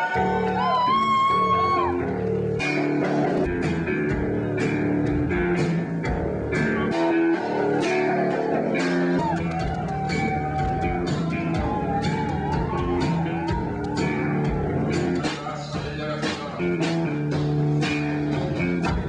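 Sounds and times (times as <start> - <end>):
bass guitar: 0.0 - 19.0
electric guitar: 0.0 - 19.0
drum beat: 0.5 - 19.0.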